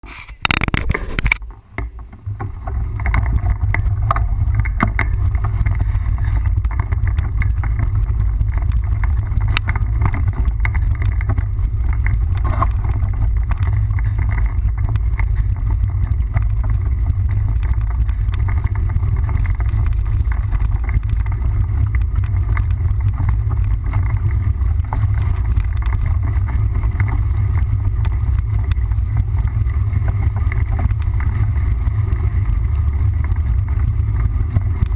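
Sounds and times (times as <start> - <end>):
bike rattling over rough ground: 0.0 - 34.9
wind buffeting microphone: 0.6 - 34.9.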